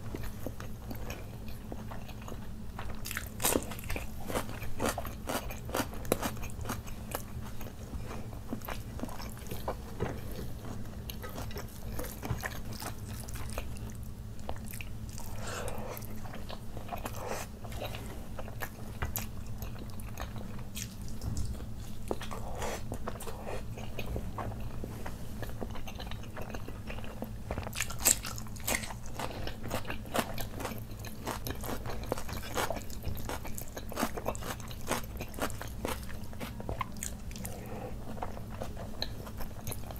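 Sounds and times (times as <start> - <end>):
close chewing: 0.1 - 21.4, 22.1 - 39.9.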